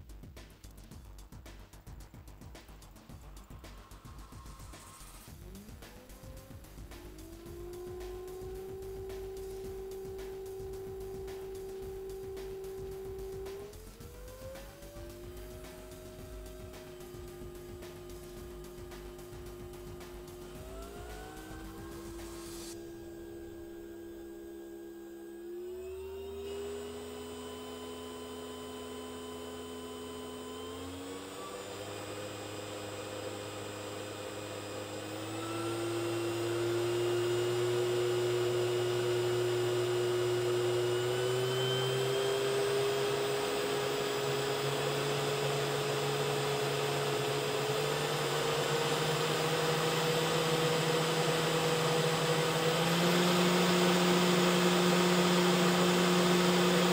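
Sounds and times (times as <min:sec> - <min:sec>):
spindle motor whine and fan whir: 0:04.1 - 0:56.9.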